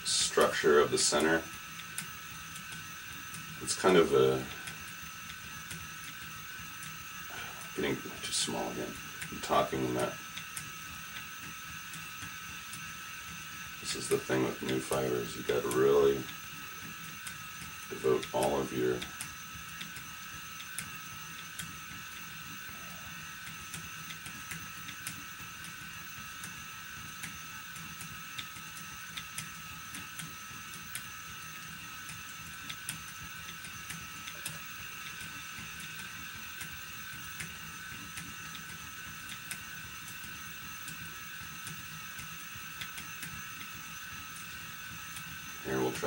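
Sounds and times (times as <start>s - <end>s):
electric spinner motor humming: 0.0s - 46.0s.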